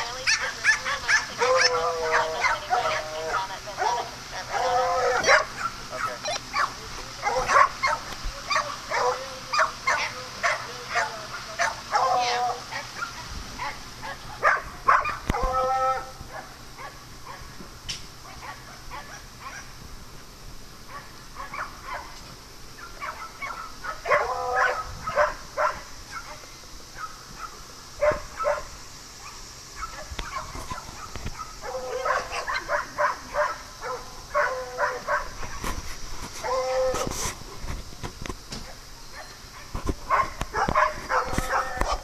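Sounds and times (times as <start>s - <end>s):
dogs barking: 0.0s - 17.6s, 18.2s - 19.8s, 20.9s - 22.2s, 22.8s - 35.6s, 36.4s - 36.9s, 38.7s - 42.0s.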